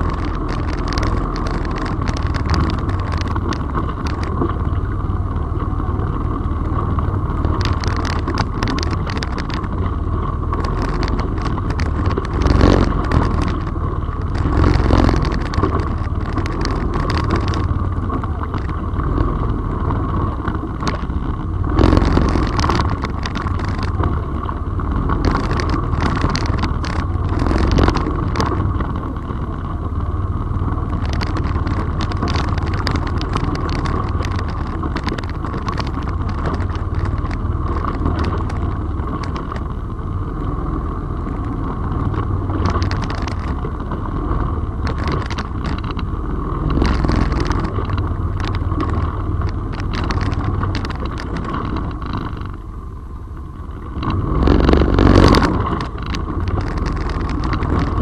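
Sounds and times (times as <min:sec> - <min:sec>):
knocks and rattles from bumps: 0:00.0 - 0:40.0, 0:41.1 - 0:52.6, 0:53.9 - 0:58.0
off-road vehicle engine running: 0:00.0 - 0:58.0.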